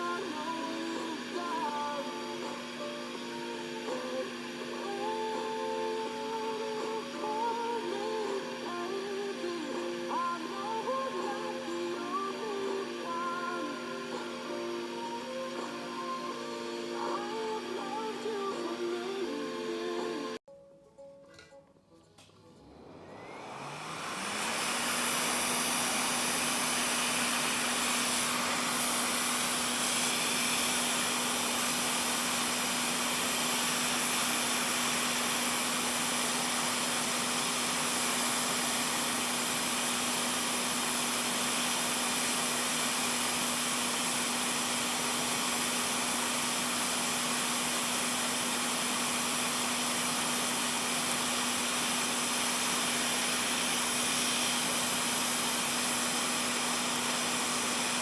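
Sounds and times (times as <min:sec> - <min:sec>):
hot air gun fan blowing: 0:00.0 - 0:20.4, 0:22.6 - 0:58.0.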